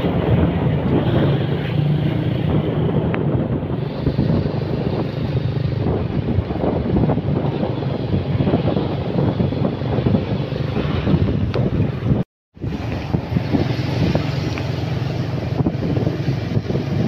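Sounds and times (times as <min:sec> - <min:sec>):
vehicle engine running: 0:00.0 - 0:17.0
wind on microphone: 0:00.0 - 0:17.0.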